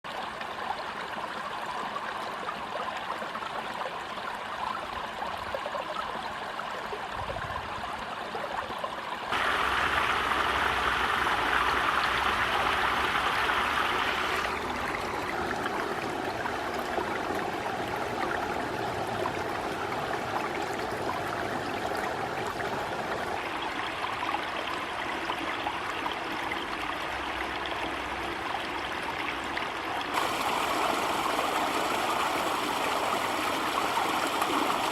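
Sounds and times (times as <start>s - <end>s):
mountain stream flowing: 0.1s - 34.9s.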